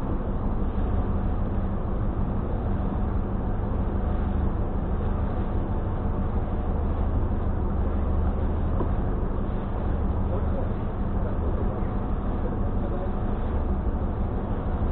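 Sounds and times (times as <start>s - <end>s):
ship engine rumble: 0.0s - 14.9s.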